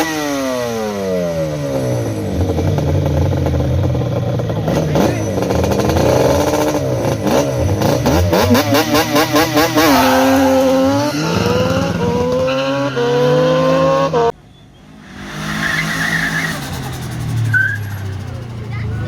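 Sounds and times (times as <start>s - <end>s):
engine accelerating through upshifts: 0.0s - 19.0s
engine bouncing off limiter: 0.0s - 19.0s.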